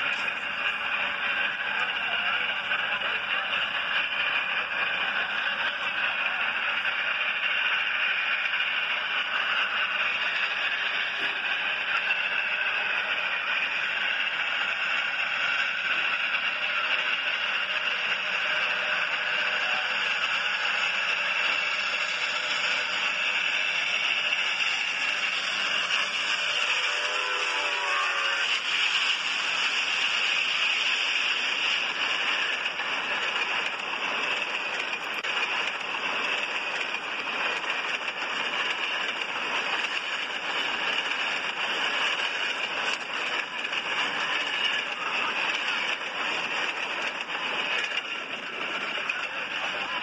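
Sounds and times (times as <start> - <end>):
hissy old film soundtrack: 0.0 - 50.0.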